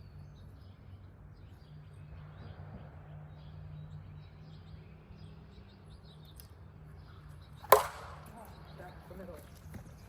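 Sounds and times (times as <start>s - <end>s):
low outdoor hum: 0.0s - 10.0s
small birds chirping: 0.0s - 10.0s.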